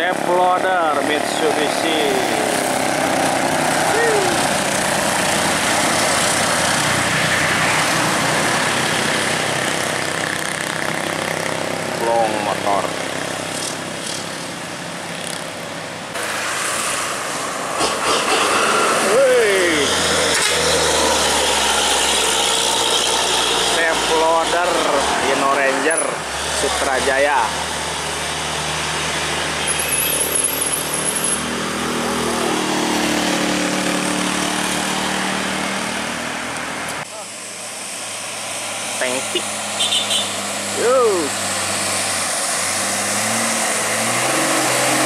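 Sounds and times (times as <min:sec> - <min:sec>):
car passing: 0:00.0 - 0:14.2, 0:16.1 - 0:45.0
motorcycle engine: 0:00.0 - 0:16.5, 0:17.8 - 0:45.0
truck engines: 0:00.0 - 0:45.0.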